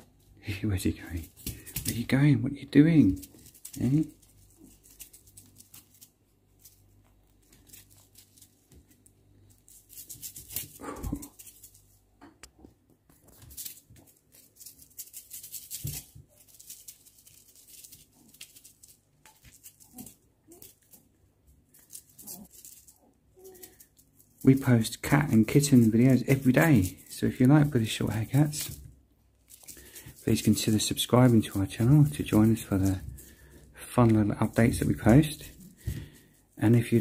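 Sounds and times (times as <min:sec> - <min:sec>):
kitten rustling and scraping fabric: 0:02.9 - 0:12.2, 0:13.0 - 0:37.0.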